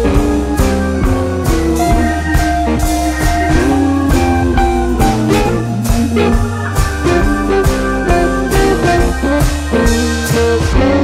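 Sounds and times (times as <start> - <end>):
guitar-led rock music: 0.0 - 11.0.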